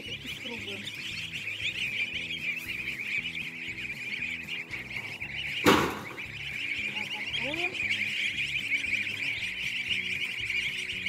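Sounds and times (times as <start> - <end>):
goslings peeping: 0.0 - 11.0.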